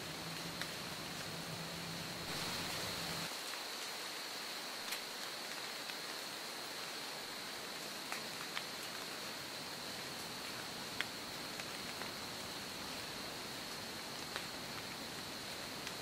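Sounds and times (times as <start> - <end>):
even hiss: 0.0 - 16.0
water dripping from trees: 0.0 - 16.0.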